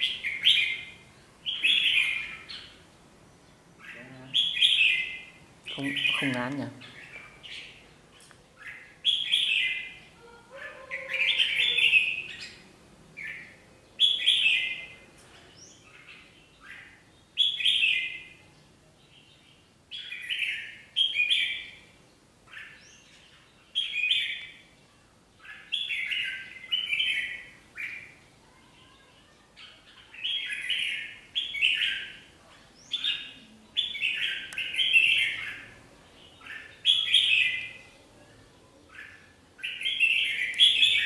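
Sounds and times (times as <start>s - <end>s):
birds singing short song phrases: 0.0s - 41.0s.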